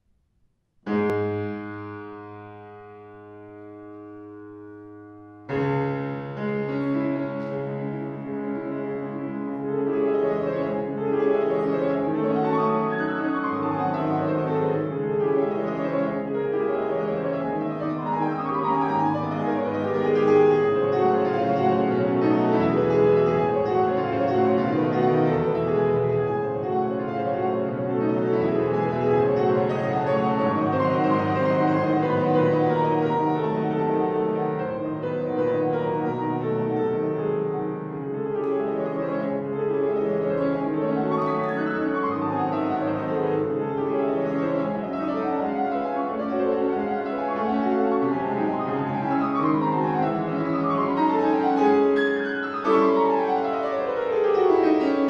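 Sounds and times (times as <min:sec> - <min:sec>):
solo piano: 0:00.8 - 0:55.0.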